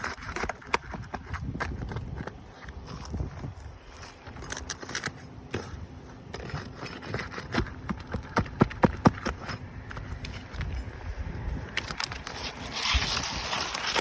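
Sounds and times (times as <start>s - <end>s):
scraping and crackling shingle: 0.0s - 14.0s.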